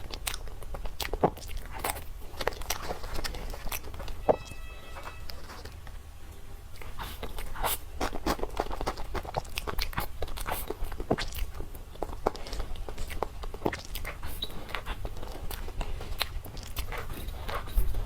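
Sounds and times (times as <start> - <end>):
person chewing with mouth clicks: 0.0 - 6.0, 6.7 - 18.0
faint low hum: 0.0 - 18.0.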